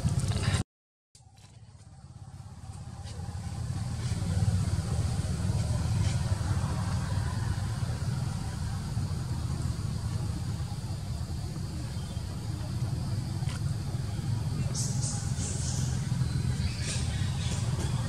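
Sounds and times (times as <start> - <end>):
low outdoor rumble: 0.0 - 0.6, 1.2 - 18.0.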